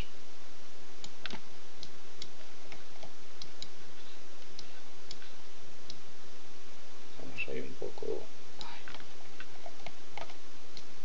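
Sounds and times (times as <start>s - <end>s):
faint low hum: 0.0s - 11.0s
steady hiss: 0.0s - 11.0s.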